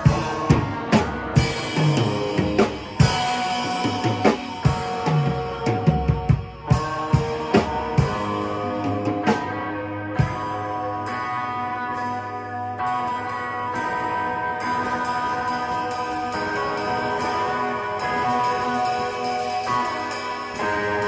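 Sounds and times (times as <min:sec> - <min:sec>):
drum kit beat: 0:00.0 - 0:21.0
electric guitar rock riffs: 0:00.0 - 0:21.0.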